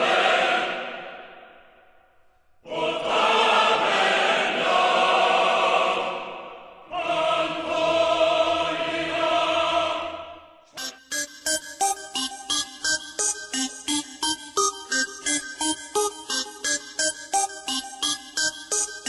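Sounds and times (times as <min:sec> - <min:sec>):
choir singing held chords: 0:00.0 - 0:01.9, 0:02.6 - 0:19.0.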